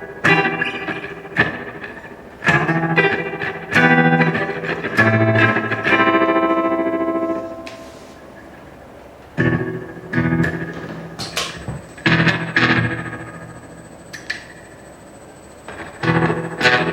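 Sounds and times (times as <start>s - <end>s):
electric guitar with reverb: 0.0s - 16.9s.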